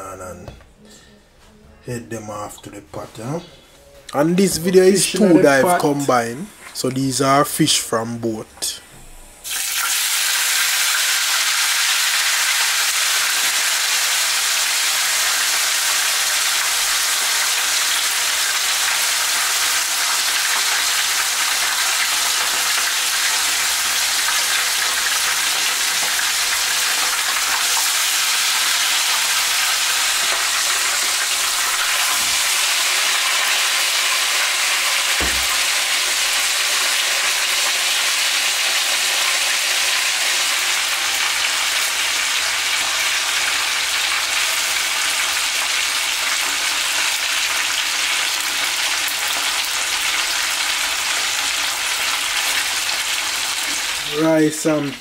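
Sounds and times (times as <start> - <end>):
fish sizzling in oil: 9.4 - 54.8.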